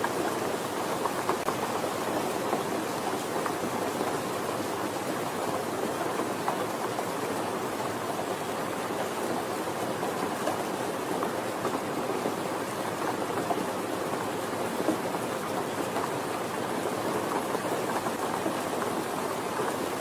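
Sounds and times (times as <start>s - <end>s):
steady rainfall hiss: 0.0s - 20.0s.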